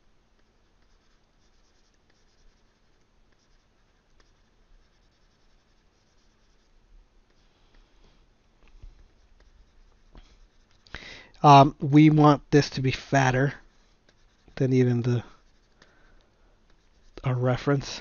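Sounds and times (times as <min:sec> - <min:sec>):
stylus scratching on tablet: 0:00.0 - 0:08.0, 0:08.8 - 0:10.9, 0:11.5 - 0:18.0.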